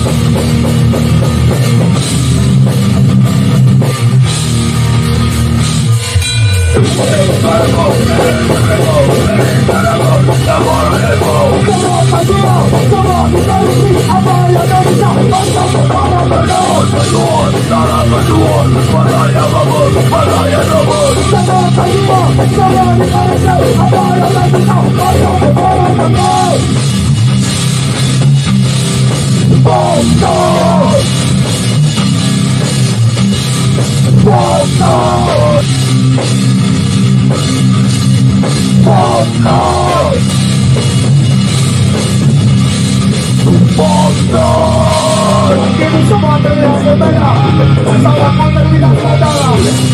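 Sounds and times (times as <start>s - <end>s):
bass guitar: 0.0s - 49.9s
distorted electric guitars: 0.0s - 49.9s
drum kit: 0.0s - 49.9s.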